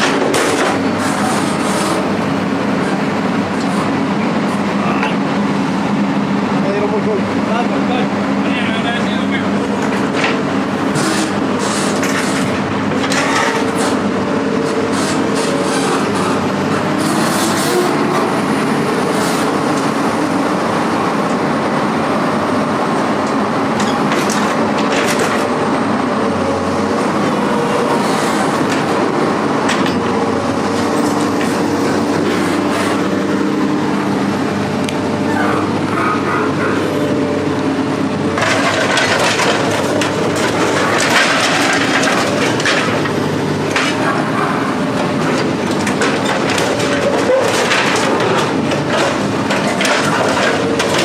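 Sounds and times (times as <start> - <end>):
heavy vehicle engine drone: 0.0 - 51.0.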